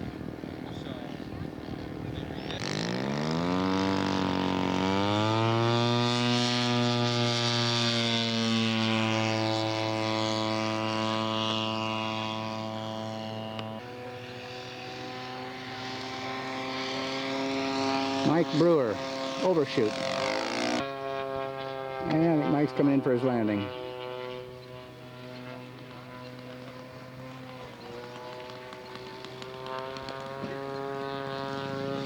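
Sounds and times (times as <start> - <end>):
model airplane engine and propeller: 0.0 - 32.0.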